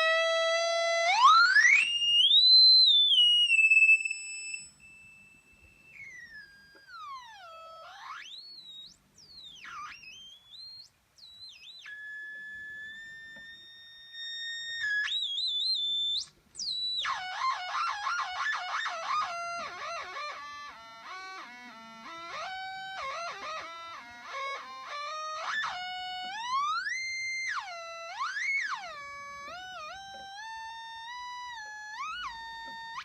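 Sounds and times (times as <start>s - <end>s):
fuzz pedal squealing guitar: 0.0s - 33.0s.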